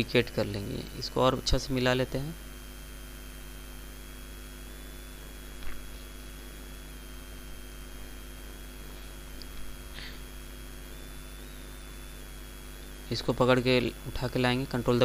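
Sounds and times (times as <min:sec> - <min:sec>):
electrical hum and hiss: 0:00.0 - 0:15.0
thin high whine: 0:00.0 - 0:15.0.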